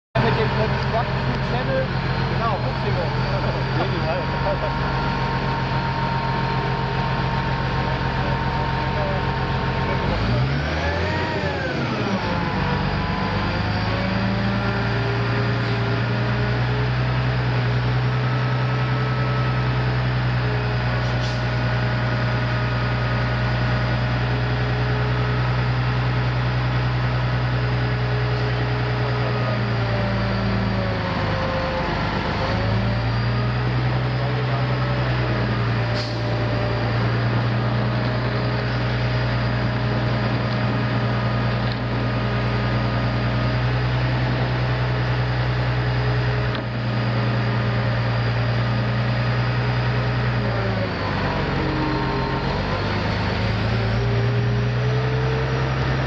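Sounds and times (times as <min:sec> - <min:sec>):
diesel engine running: 0:00.1 - 0:56.0.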